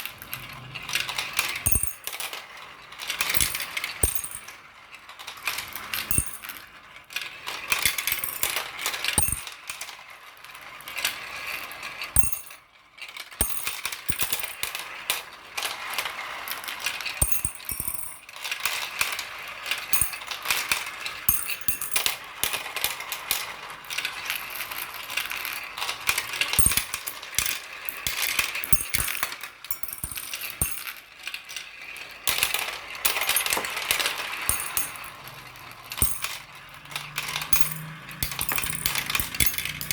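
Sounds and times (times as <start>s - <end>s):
marbles rolling down a track: 0.0s - 39.9s.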